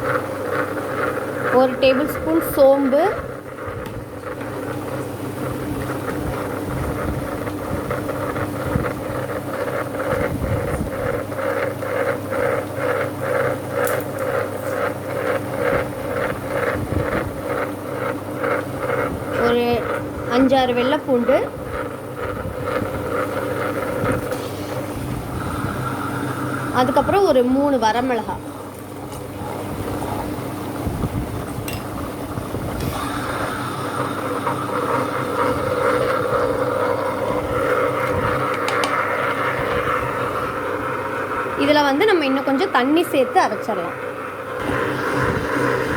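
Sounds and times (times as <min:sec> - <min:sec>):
wet grinder motor hum: 0:00.0 - 0:45.9.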